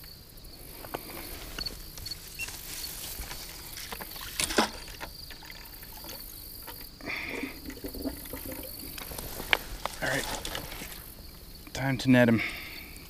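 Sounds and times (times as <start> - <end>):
water splashing and sloshing: 0.8 - 11.3.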